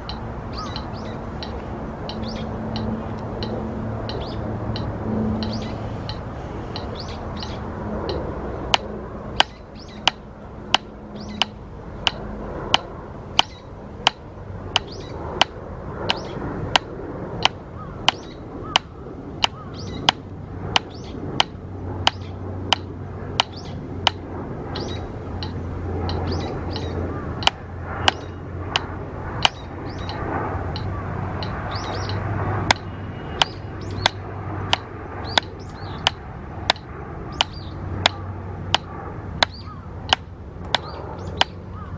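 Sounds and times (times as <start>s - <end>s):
drumsticks tapping practice pad: 0.0s - 7.0s, 8.0s - 41.6s
birds chirping: 0.0s - 41.9s.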